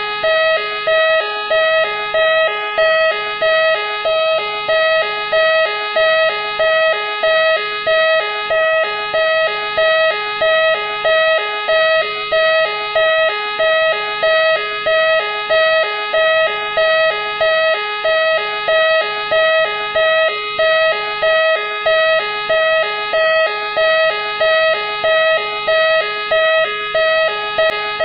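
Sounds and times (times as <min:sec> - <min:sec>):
two-tone police siren: 0:00.0 - 0:28.0.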